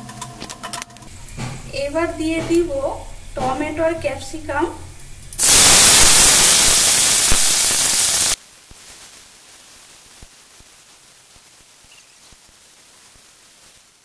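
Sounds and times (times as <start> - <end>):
vegetables sizzling in hot oil: 2.0 - 14.0.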